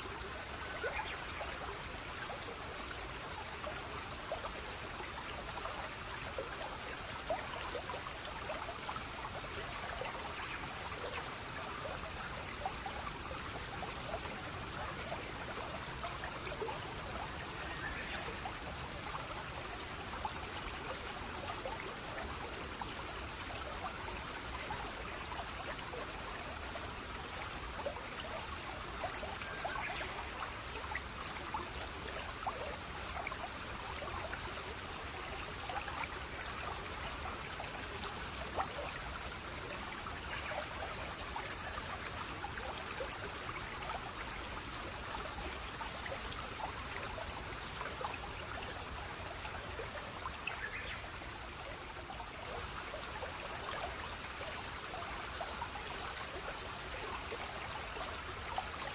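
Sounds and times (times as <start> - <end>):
stream water trickling and splashing: 0.0 - 58.9.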